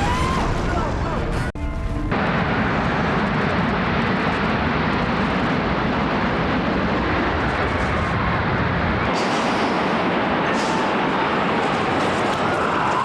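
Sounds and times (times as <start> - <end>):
building collapsing rumbling roar: 0.0 - 13.0.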